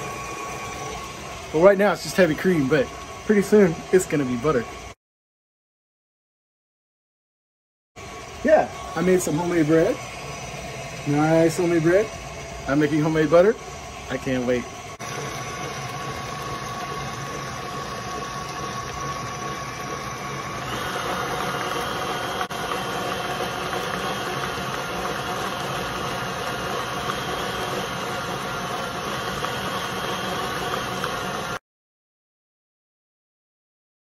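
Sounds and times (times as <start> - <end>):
stand mixer whisking: 0.0 - 5.0, 8.0 - 31.6.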